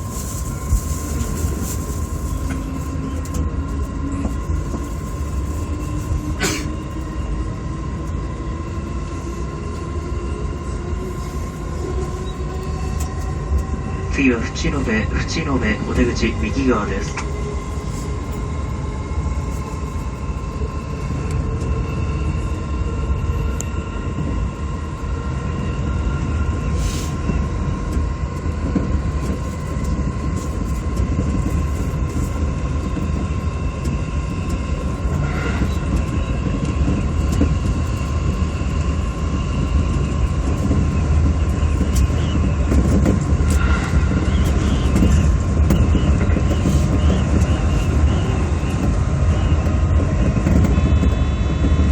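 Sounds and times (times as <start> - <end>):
train rumble from inside car: 0.0 - 51.9
train whining tones: 0.0 - 51.9.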